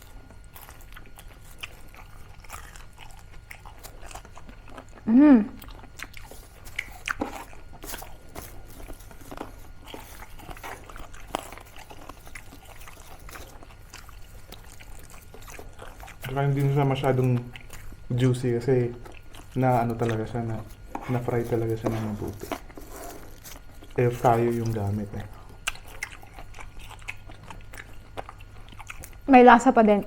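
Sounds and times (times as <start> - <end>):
crunching crispy food: 0.0 - 29.3.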